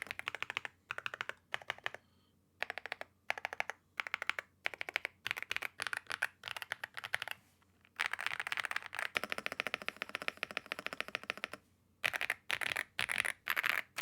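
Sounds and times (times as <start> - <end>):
fast typing on mechanical keyboard: 0.0 - 2.0, 2.6 - 7.4, 8.0 - 14.0.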